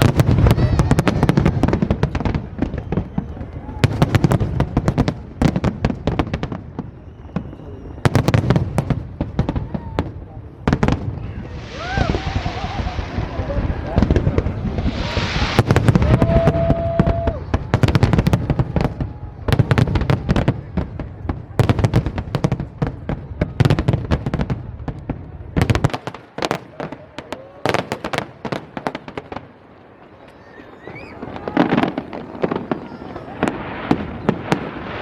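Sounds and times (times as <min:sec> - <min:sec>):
heavy firework booms: 0:00.0 - 0:29.4, 0:30.9 - 0:35.0
fireworks crackling and banging: 0:00.0 - 0:35.0.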